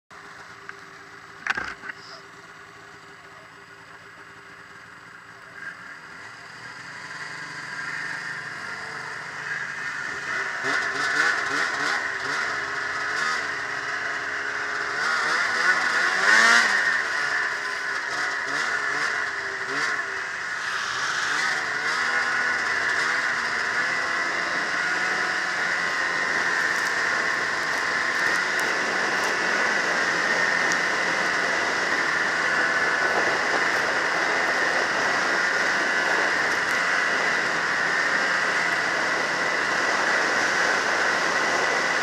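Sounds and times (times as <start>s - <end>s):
snowmobile engine revving: 5.4s - 42.0s.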